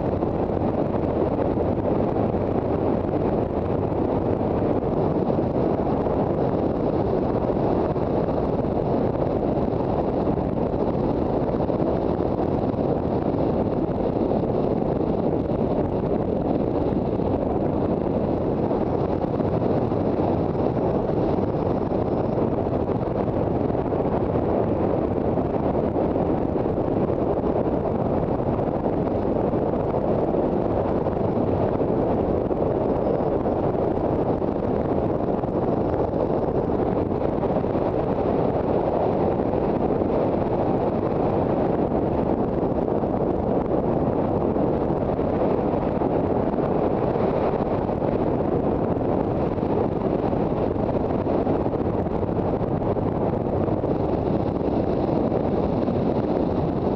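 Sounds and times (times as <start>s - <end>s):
wind rush over microphone: 0.0s - 56.9s.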